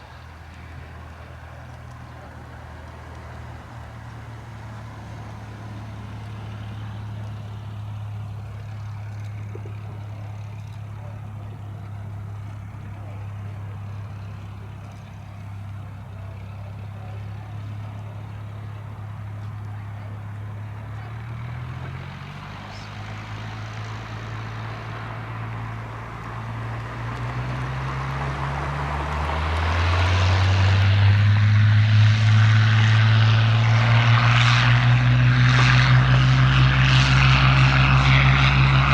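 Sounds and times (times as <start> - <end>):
aircraft piston engine running: 0.0 - 38.9.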